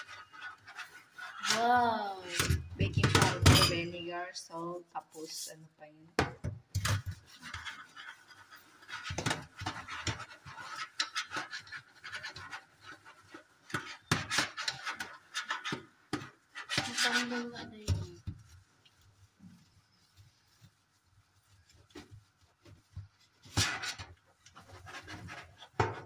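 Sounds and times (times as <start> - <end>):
sponge scrubbing metal mesh filter: 0.0 - 5.4, 7.0 - 26.0.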